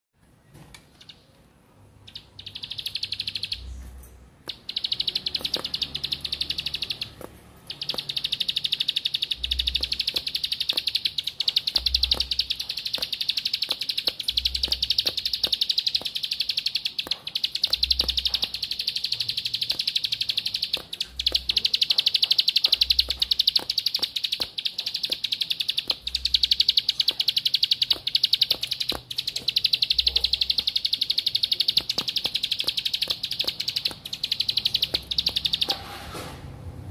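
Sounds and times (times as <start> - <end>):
bird singing rapid trill: 2.0 - 3.8, 4.5 - 35.8.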